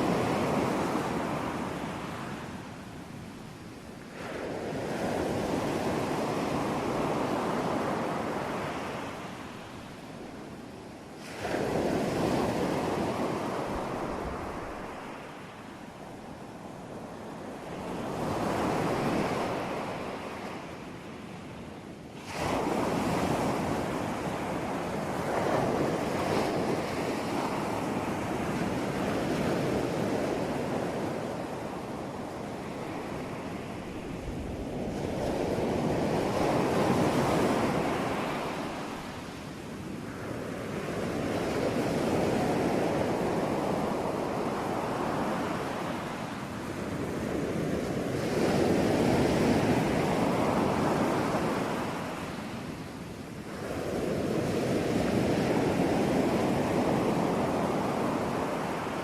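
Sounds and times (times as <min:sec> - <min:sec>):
waves breaking and washing in: 0:00.0 - 0:59.0.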